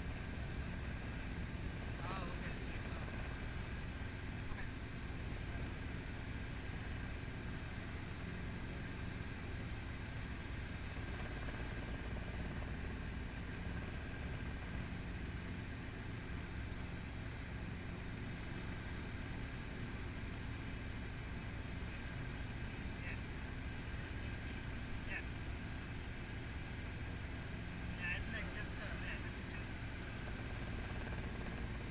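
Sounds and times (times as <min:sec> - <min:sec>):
helicopter engine and rotors: 0:00.0 - 0:31.9.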